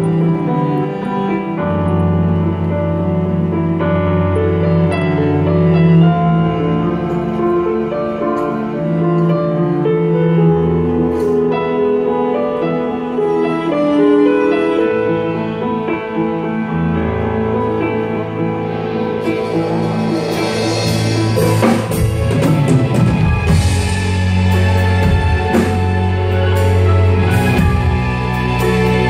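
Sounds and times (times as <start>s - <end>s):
keyboard piano chords and bass: 0.0s - 29.0s.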